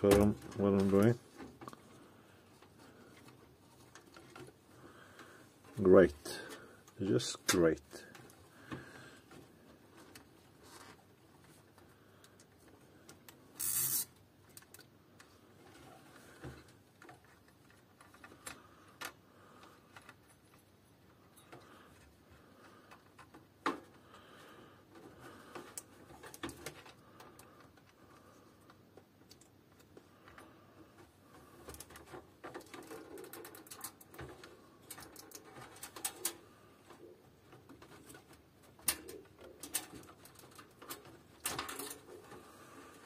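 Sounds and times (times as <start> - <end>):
clicks and rustling of hands: 0.0 - 43.0.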